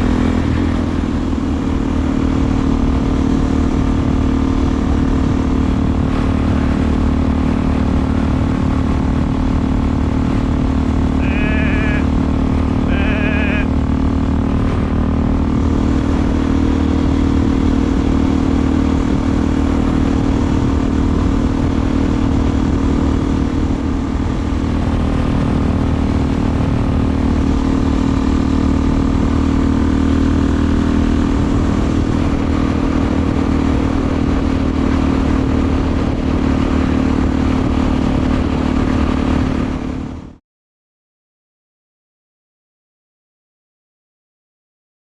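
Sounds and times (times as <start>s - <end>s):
motorcycle engine running: 0.0s - 40.4s.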